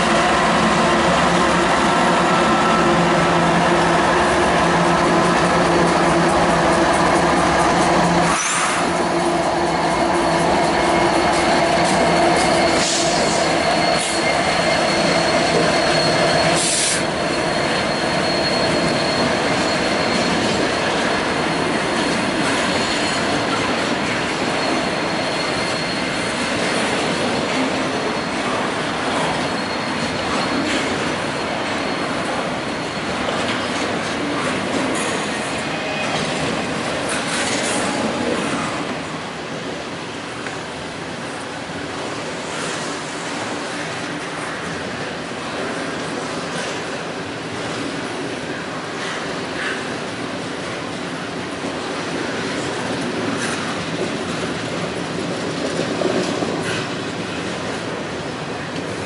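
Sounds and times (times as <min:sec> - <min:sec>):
diesel locomotive engines droning: 0:00.0 - 0:59.0
sharp clanks of train: 0:00.0 - 0:59.0
train wheels squealing on rails: 0:00.0 - 0:59.0.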